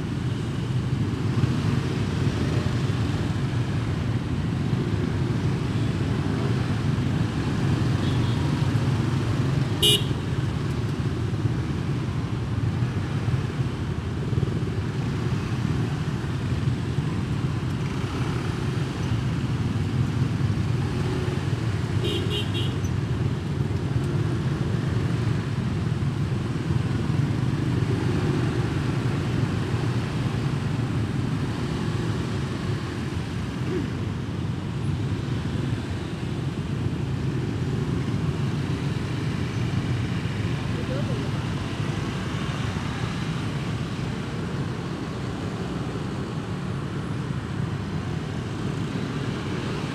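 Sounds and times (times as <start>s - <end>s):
motorbike traffic noise: 0.0s - 49.9s.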